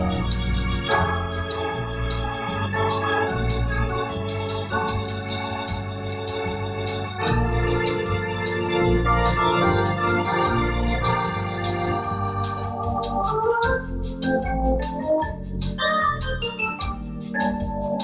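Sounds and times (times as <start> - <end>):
deep pedal bass notes: 0.0 - 18.0
electronic organ chords and melody: 0.0 - 18.0.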